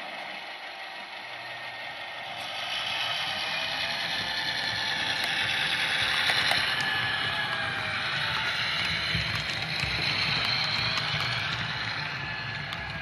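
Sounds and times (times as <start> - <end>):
model train rolling: 0.0 - 13.0.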